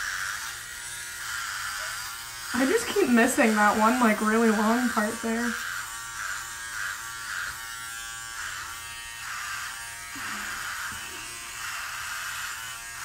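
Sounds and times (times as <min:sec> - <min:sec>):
electric hair clippers buzzing: 0:00.0 - 0:13.0.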